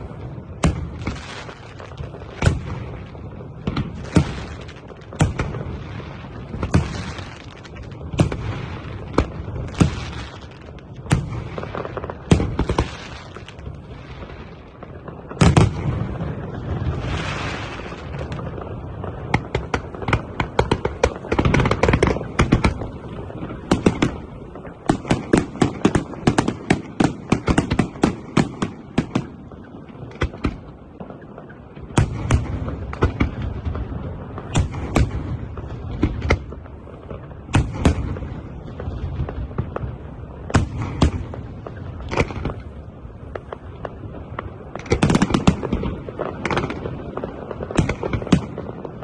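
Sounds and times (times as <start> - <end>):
fireworks bangs and crackling: 0.0 - 49.0
fireworks booms: 0.0 - 49.0.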